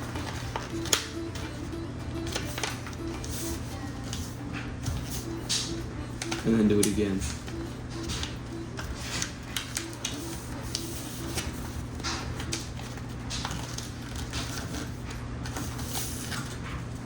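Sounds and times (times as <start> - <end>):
paper rustling and crinkling: 0.0 - 17.0
steady low hum: 0.0 - 17.0.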